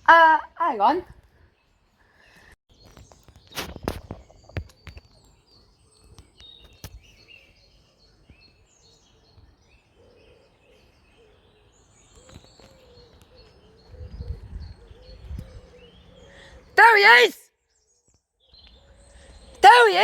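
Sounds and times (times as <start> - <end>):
faint outdoor background noise: 0.0 - 20.0
small birds chirping: 0.0 - 20.0.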